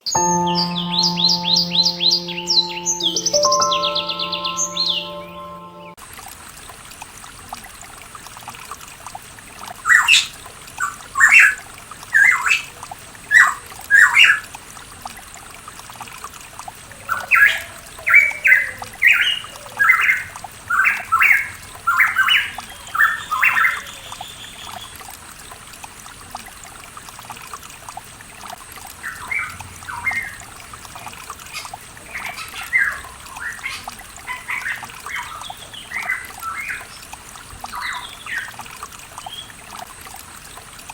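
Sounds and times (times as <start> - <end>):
running water trickling: 6.1 - 40.9.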